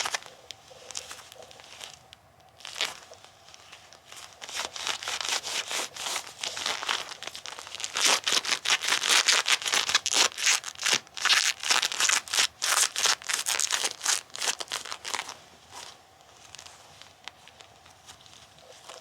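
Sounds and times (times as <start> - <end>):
rubber gloves rubbing together: 0.0 - 19.0.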